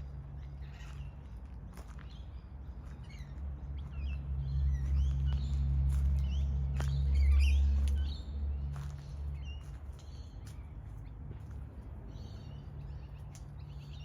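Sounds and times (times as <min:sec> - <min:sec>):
low motor-like hum: 0:00.0 - 0:14.0
small birds chirping: 0:00.0 - 0:14.0.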